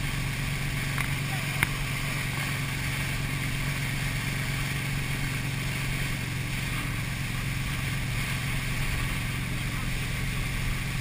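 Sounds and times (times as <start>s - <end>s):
motorboat engine drone: 0.0s - 11.0s
rushing wake water: 0.0s - 11.0s.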